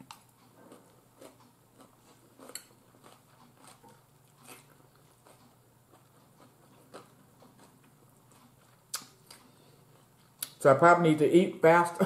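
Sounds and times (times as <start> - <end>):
chewing and mouth smacks: 0.0 - 10.6.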